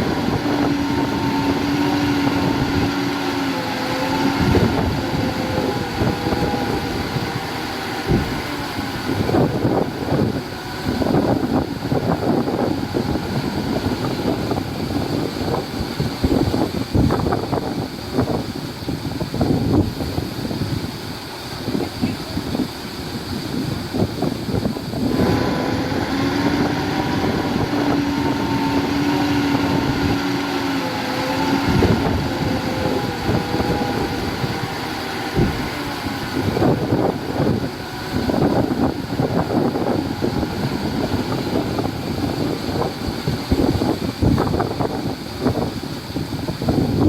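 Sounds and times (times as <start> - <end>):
diesel machinery knocking and rumbling: 0.0 - 47.0
steady pitched drone: 0.0 - 47.0
wind buffeting microphone: 0.0 - 47.0.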